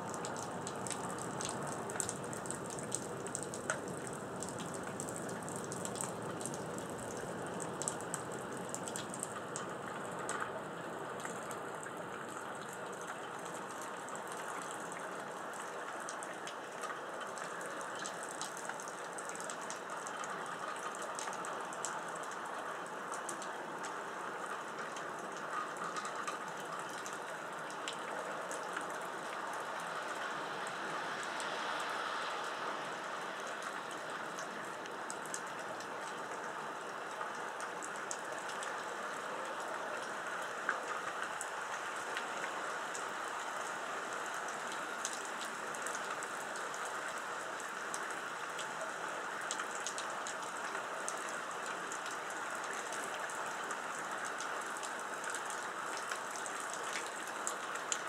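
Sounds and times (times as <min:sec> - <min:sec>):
raindrops ticking on surfaces: 0:00.0 - 0:58.0
steady rain falling: 0:00.0 - 0:58.0.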